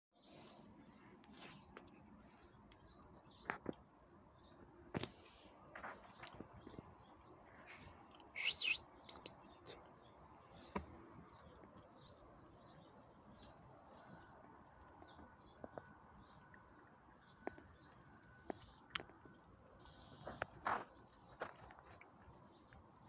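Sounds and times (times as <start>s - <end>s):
small birds chirping: 0.2s - 23.0s.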